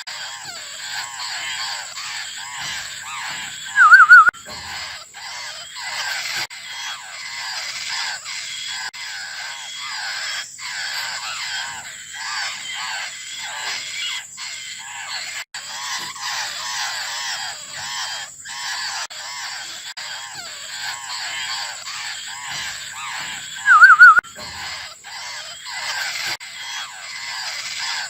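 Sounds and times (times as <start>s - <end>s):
young birds begging calls: 0.0s - 28.0s.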